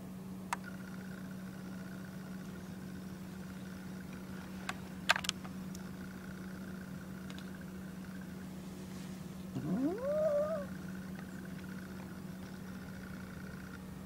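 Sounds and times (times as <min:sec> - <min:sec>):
faint high whine: 0:00.0 - 0:14.0
low electrical hum: 0:00.0 - 0:14.0.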